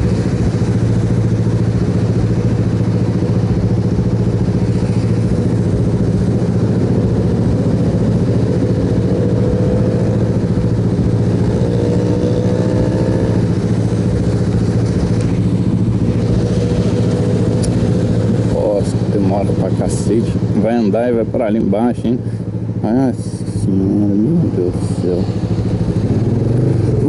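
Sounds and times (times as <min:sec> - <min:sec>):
motorcycle engine humming: 0:00.0 - 0:27.0
road and wind noise: 0:00.0 - 0:27.0.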